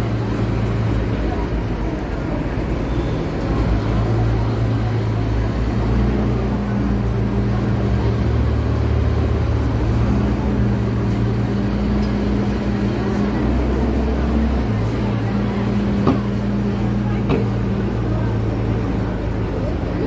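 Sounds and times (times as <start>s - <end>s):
road noise hiss: 0.0s - 20.0s
vehicle engine drone: 0.0s - 20.0s.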